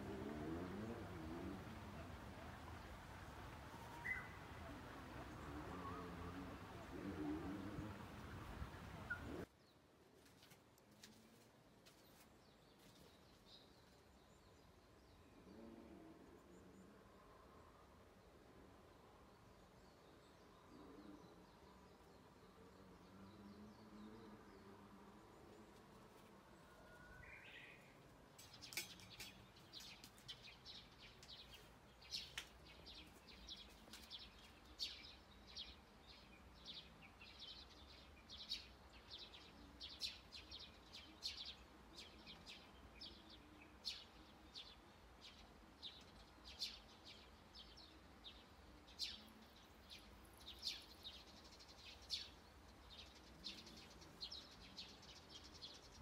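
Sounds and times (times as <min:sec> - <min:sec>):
small birds chirping: 0:00.0 - 0:15.3, 0:19.3 - 0:56.0.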